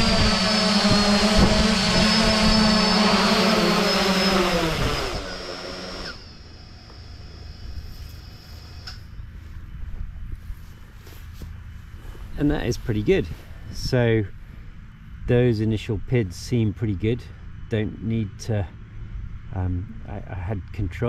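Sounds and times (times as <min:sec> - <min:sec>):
drone motors and propellers humming: 0:00.0 - 0:21.0.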